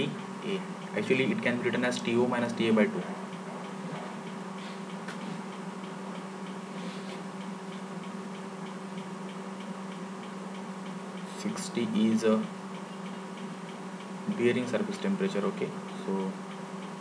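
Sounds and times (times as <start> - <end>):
faint regular ticking: 0.0 - 17.0
low electrical hum: 0.0 - 17.0.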